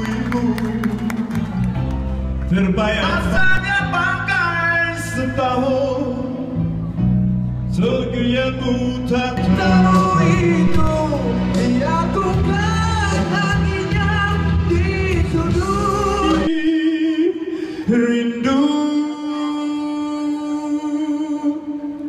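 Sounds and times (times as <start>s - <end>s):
man singing into a microphone: 0.0s - 1.6s, 2.4s - 6.8s, 7.7s - 22.0s
backing music: 0.0s - 22.0s.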